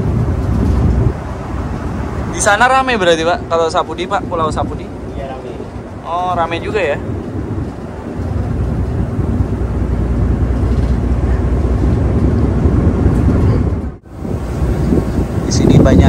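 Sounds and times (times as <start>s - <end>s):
wind and ship rumble: 0.0s - 16.0s.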